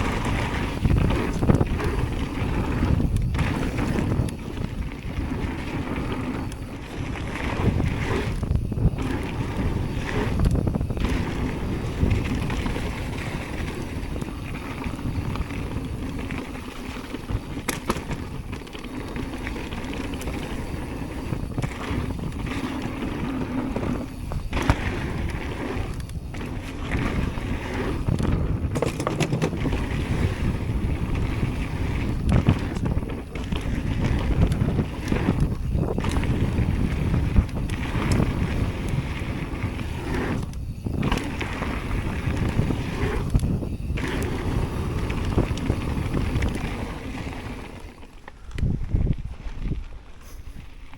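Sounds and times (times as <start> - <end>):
bike clattering: 0.0 - 50.9
bike tyres rumbling on dirt: 0.0 - 50.9
wind buffeting microphone: 0.0 - 50.9.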